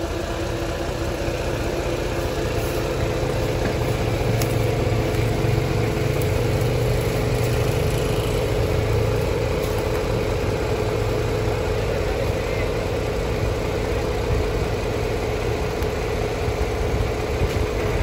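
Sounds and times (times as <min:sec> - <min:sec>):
truck diesel engine idling: 0:00.0 - 0:18.0.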